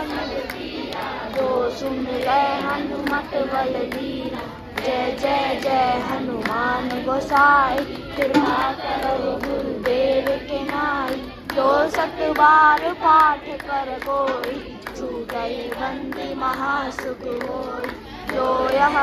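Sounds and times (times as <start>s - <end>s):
group singing: 0.0s - 19.0s
hand claps: 0.0s - 19.0s.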